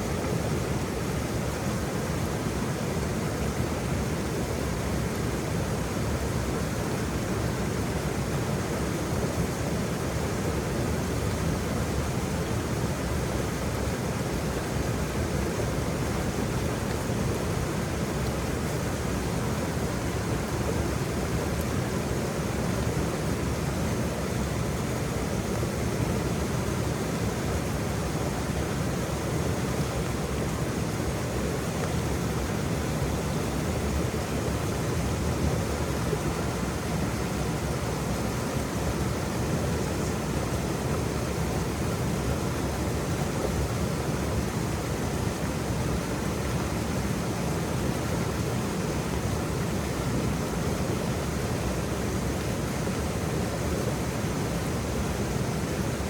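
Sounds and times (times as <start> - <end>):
waterfall rushing: 7.5 - 56.0.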